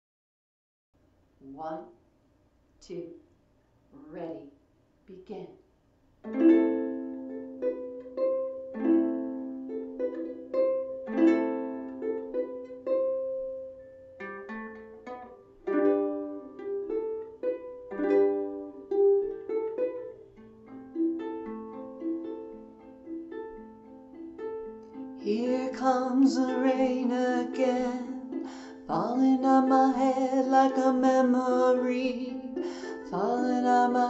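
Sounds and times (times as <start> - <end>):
ukulele playing: 6.2 - 34.0.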